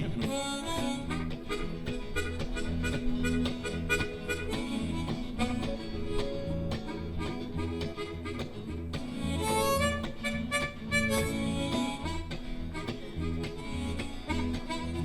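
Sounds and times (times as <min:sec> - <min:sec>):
electric blues band playing: 0:00.0 - 0:15.0
harmonica lead: 0:00.0 - 0:15.0.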